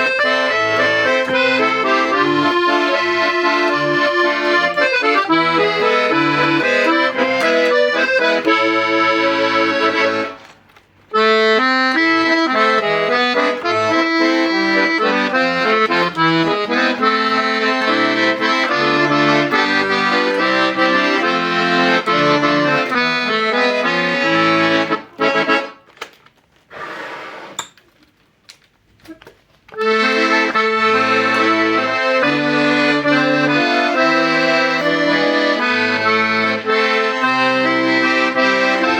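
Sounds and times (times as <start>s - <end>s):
accordion playing: 0.0s - 25.9s, 29.7s - 38.9s.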